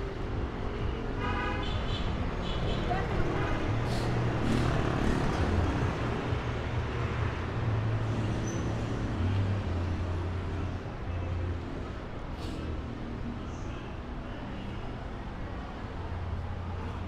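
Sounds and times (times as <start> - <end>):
city street traffic: 0.0 - 17.0.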